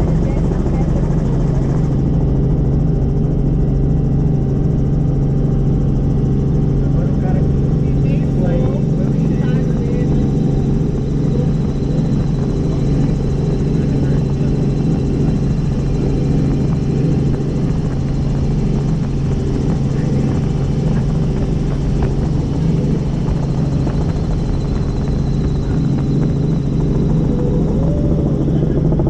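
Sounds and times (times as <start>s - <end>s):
helicopter turbine and rotor drone: 0.0s - 29.0s.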